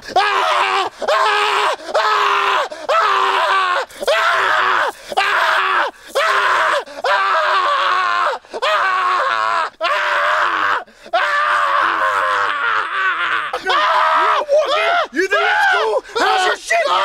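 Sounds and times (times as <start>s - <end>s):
man screaming in pain: 0.1s - 17.0s.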